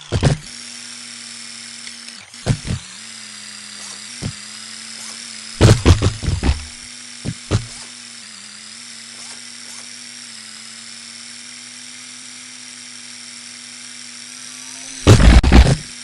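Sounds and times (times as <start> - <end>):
small electric motor whine: 0.0 - 16.0.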